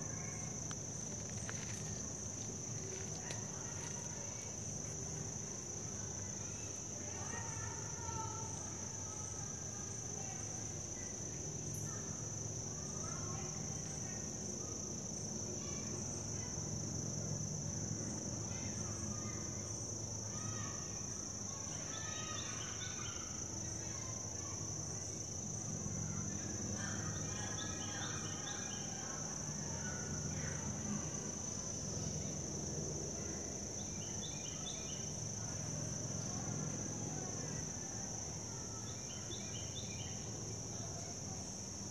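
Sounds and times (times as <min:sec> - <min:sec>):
insect chorus buzzing trill: 0:00.0 - 0:41.9.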